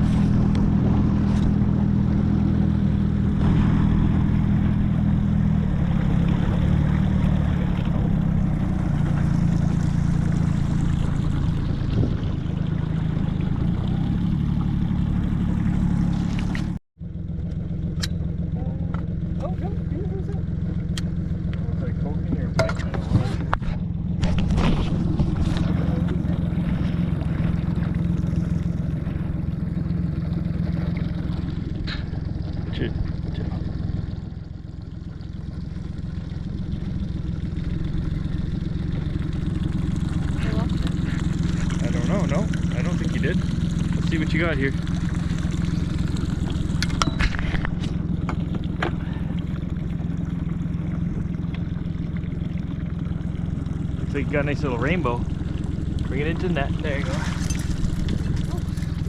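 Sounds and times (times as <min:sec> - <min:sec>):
outboard motor droning: 0:00.0 - 0:59.0.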